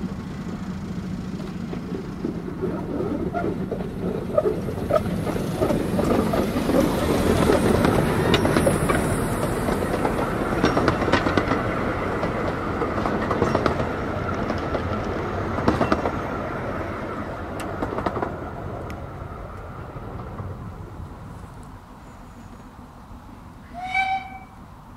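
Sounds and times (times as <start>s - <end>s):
wheels clicking over rail joints: 0.0s - 21.8s
steam train running past: 0.0s - 24.9s.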